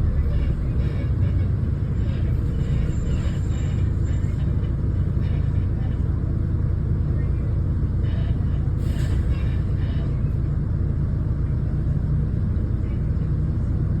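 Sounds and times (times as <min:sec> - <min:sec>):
bus diesel engine drone: 0:00.0 - 0:14.0
road rumble: 0:00.0 - 0:14.0.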